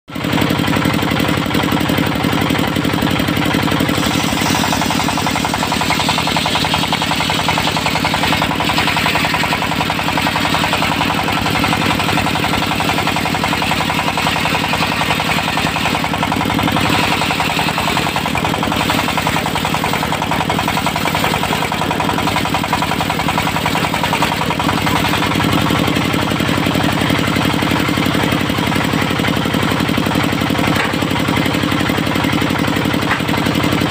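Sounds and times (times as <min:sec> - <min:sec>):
diesel engine chugging: 0:00.1 - 0:33.9.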